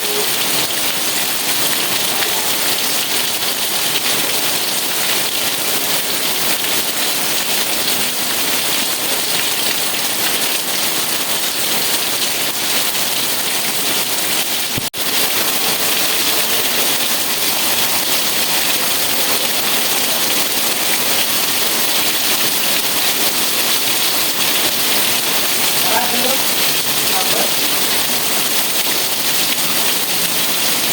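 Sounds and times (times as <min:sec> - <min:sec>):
heavy rainfall: 0:00.0 - 0:30.9.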